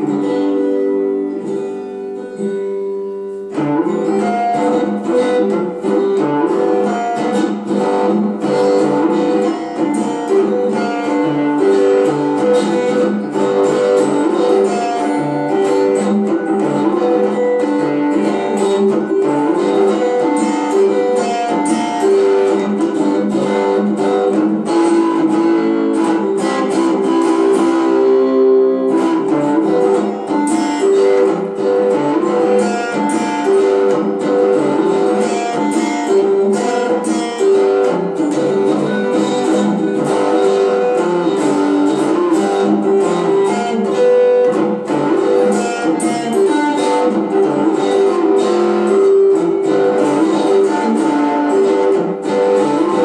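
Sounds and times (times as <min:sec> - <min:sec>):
canjo strumming and plucking: 0:00.0 - 0:53.0.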